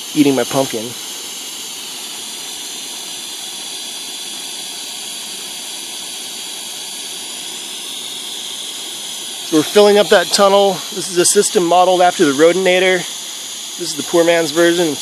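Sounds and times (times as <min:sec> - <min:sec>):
gas hissing through a hose: 0:00.0 - 0:15.0.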